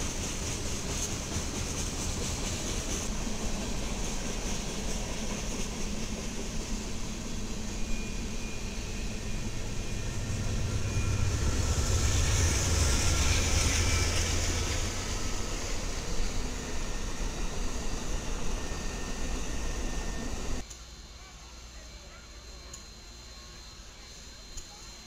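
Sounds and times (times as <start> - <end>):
train passing: 0.0 - 20.6.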